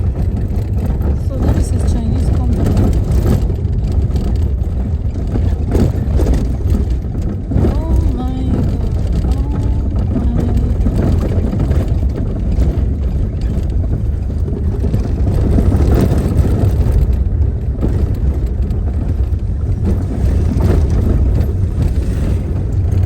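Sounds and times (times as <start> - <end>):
car tyres and engine rumble: 0.0 - 23.0.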